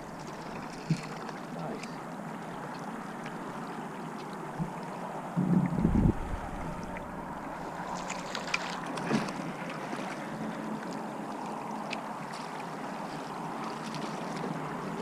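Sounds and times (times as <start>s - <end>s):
light ticks and splashes: 0.0s - 5.8s, 6.8s - 15.0s
river water rushing: 0.0s - 15.0s.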